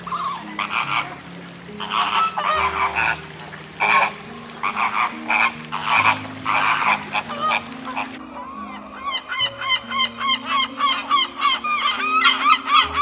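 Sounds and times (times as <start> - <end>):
harsh animal calls: 0.0 - 13.0.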